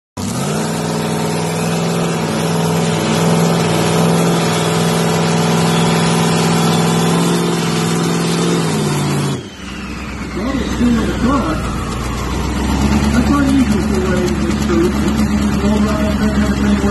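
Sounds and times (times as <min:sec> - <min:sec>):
dragster engine droning: 0:00.2 - 0:16.9.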